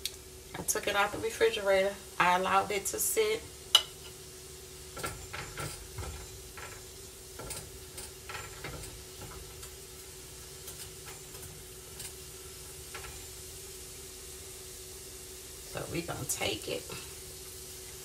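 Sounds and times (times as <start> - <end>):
garlic sizzling in butter: 0.0 - 18.0.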